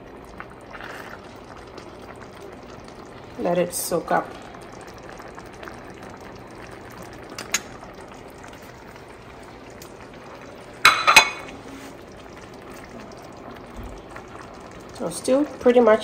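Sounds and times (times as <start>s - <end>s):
stew bubbling: 0.0s - 16.0s.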